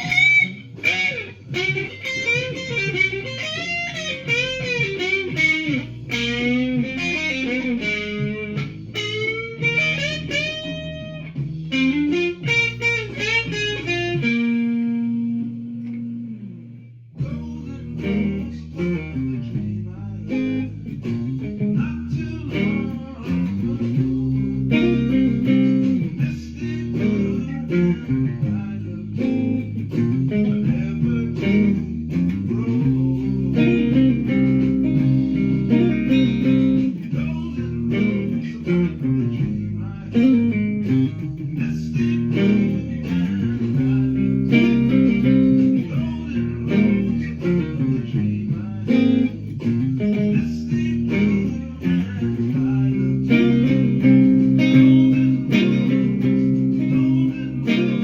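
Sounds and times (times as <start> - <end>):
bass line: 0.0 - 58.0
picked guitar melody: 0.0 - 58.0.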